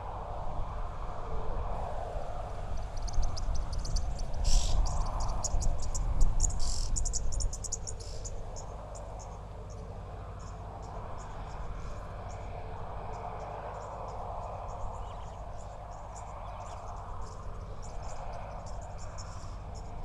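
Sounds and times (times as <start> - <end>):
crickets chirping: 1.8 - 20.0.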